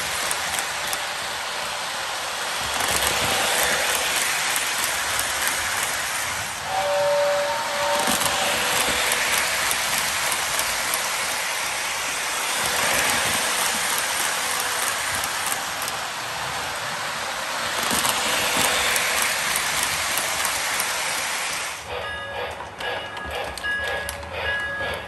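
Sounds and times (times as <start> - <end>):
model train wheels hissing on rails: 0.0 - 25.0.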